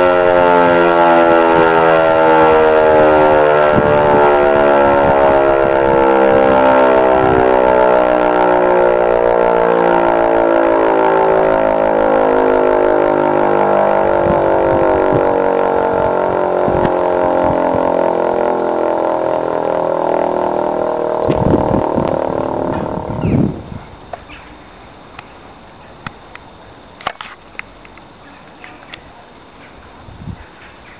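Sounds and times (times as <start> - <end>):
electric motor siren winding down: 0.0 - 26.5.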